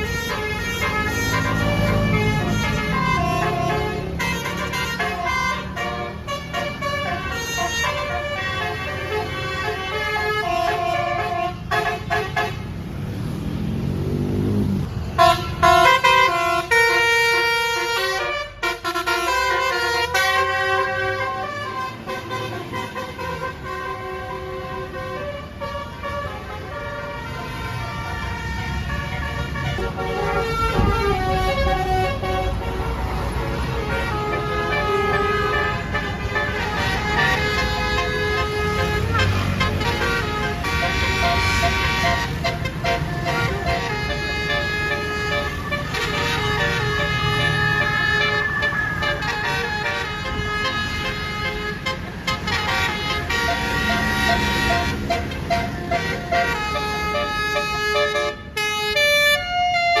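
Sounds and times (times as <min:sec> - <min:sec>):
multi-tone bus air horns playing tunes: 0:00.0 - 0:12.8, 0:15.1 - 1:00.0.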